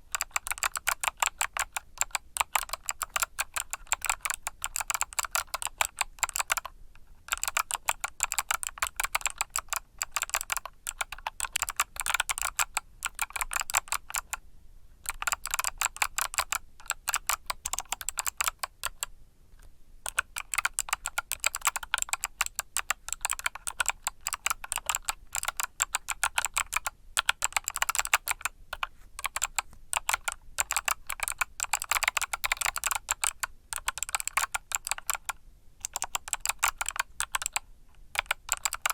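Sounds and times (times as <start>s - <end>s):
mechanical keyboard typing: 0.0s - 14.4s, 15.0s - 19.1s, 20.0s - 38.9s.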